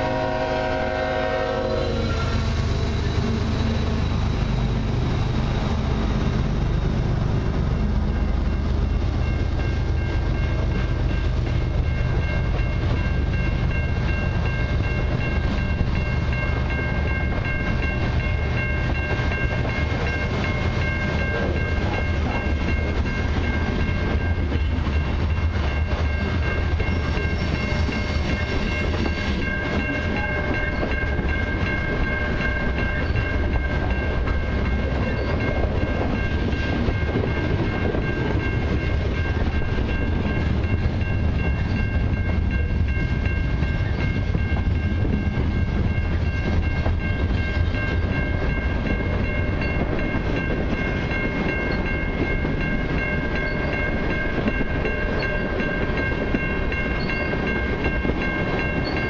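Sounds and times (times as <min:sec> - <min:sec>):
freight train wheels clattering: 0:02.2 - 0:59.0.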